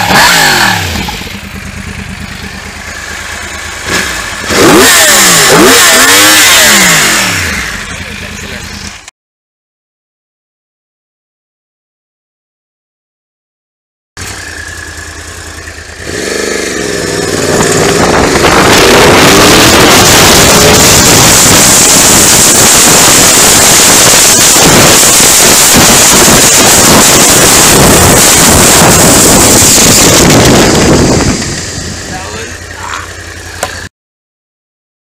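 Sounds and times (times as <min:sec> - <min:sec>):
motorcycle engine accelerating: 0:00.0 - 0:09.1, 0:14.2 - 0:33.9.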